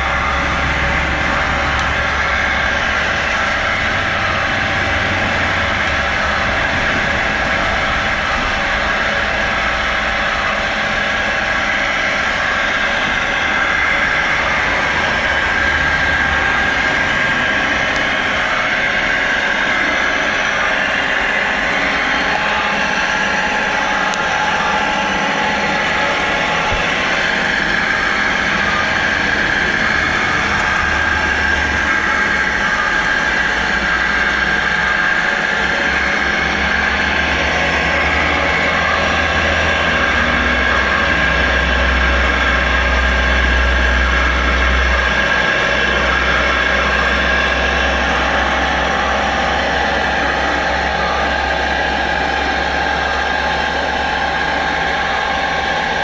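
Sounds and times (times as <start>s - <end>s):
electric winch motor drone: 0.0s - 56.0s
high gear whine: 0.0s - 56.0s.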